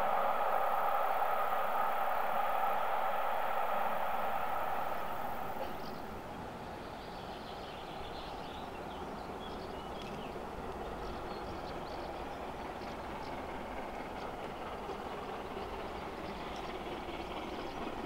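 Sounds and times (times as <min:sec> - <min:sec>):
steam locomotive rumble: 0:00.0 - 0:06.7, 0:08.8 - 0:18.0.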